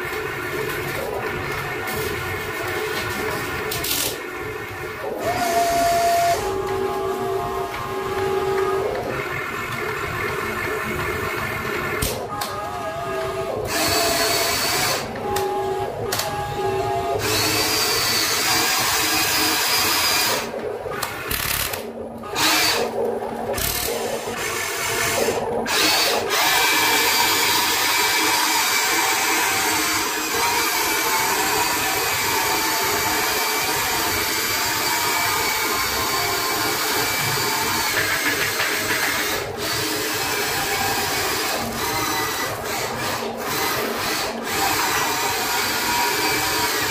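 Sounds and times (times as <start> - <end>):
toy excavator motors whining: 0.0 - 46.9.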